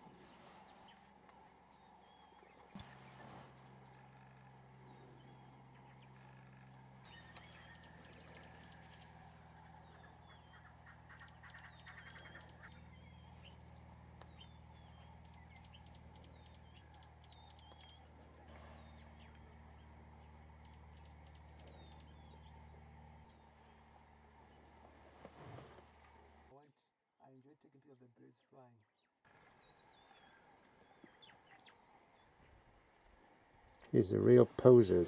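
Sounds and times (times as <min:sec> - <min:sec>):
bird chirps: 0:00.0 - 0:24.7, 0:26.9 - 0:32.7
low steady hum: 0:00.0 - 0:26.6, 0:29.3 - 0:35.0.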